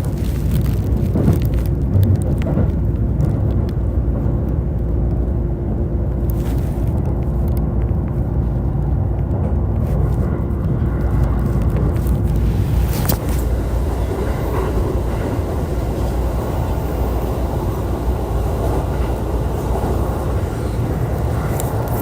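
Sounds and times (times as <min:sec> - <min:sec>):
constant electric hum: 0:00.0 - 0:22.0
train wheels rumbling on rail: 0:00.0 - 0:22.0.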